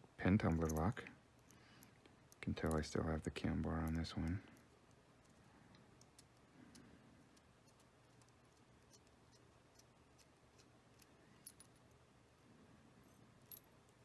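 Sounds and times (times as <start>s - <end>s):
small metallic clicks: 0.4s - 12.0s.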